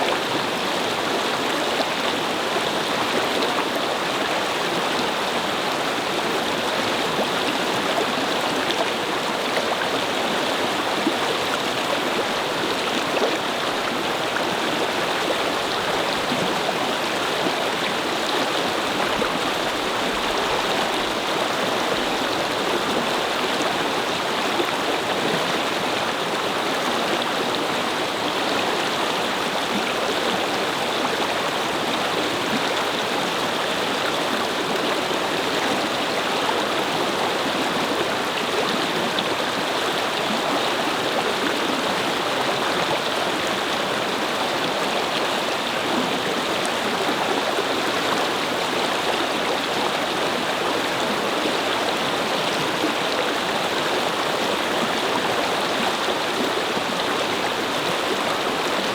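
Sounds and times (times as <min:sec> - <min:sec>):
brook babbling over stones: 0:00.0 - 0:58.9.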